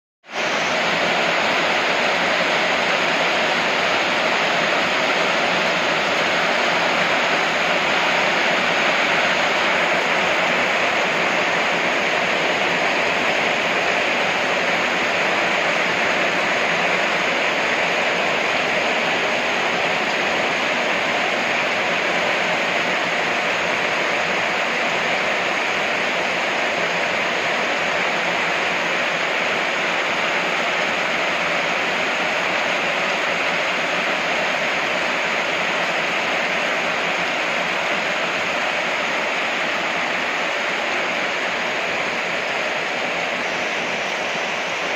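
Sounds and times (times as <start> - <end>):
heavy rain on metal roofs: 0.2 - 44.9
water streaming off eaves: 0.2 - 44.9.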